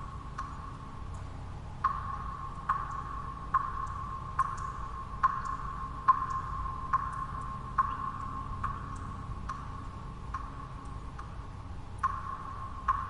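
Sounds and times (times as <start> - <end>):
low steady white noise: 0.0 - 13.0
small faint drips: 0.0 - 13.0
water drops plinking: 0.3 - 11.4, 12.0 - 13.0.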